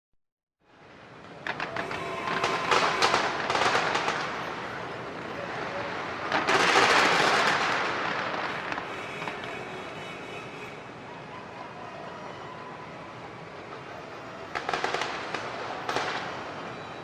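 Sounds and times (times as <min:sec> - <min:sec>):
fireworks crackling and popping: 0:00.8 - 0:11.0, 0:13.4 - 0:17.0.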